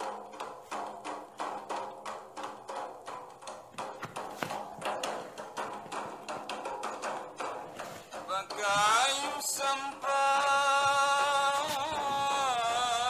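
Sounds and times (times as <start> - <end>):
knocking percussion beat: 0.0 - 13.0.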